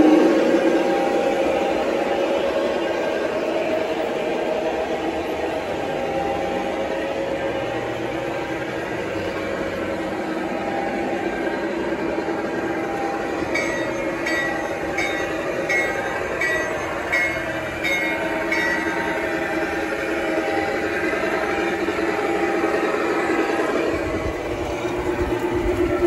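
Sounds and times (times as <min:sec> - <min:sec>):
model trains rolling hum: 0:00.0 - 0:26.0.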